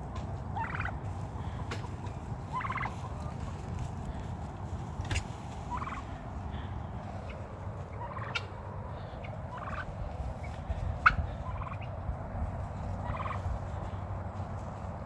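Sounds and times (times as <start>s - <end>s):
turkeys gobbling: 0.0s - 15.0s.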